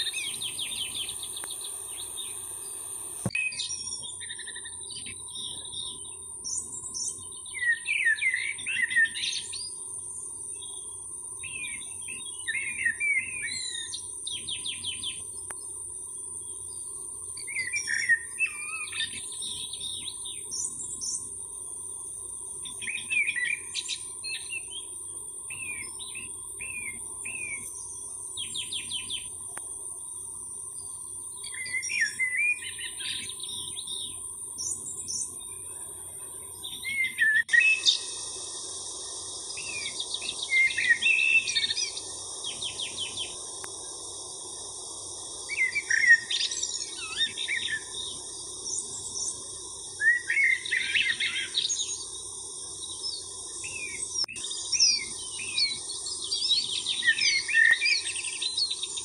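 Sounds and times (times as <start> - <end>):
high-pitched insect drone: 0.0 - 59.0
small birds chirping: 0.0 - 59.0.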